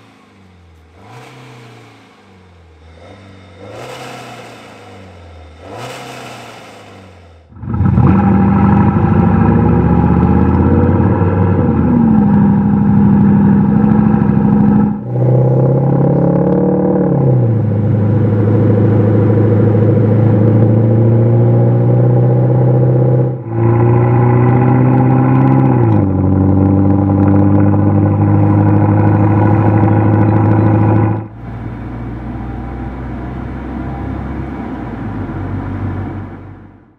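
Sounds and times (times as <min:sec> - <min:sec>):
quiet diesel engine: 0:00.0 - 0:36.9
synthesised engine drone: 0:00.0 - 0:36.9.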